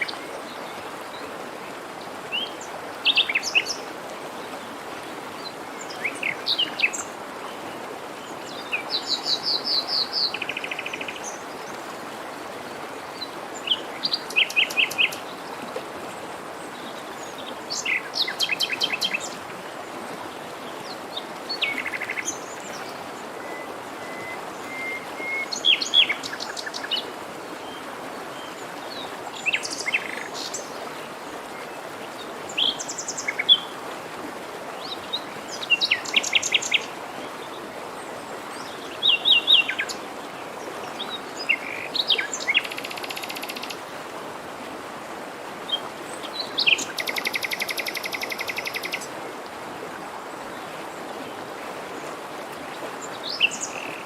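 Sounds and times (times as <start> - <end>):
forest stream rushing: 0.0 - 54.0.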